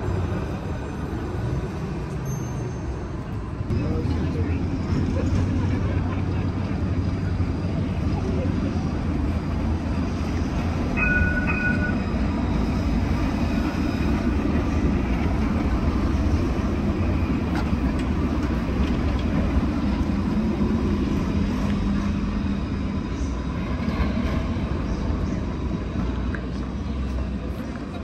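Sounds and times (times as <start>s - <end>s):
tram rumbling on rails: 0.0s - 28.0s.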